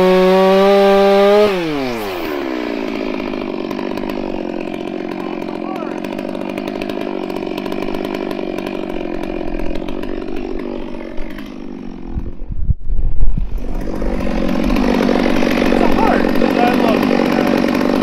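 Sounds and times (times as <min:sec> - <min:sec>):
chainsaw running: 0:00.0 - 0:12.7, 0:13.3 - 0:18.0.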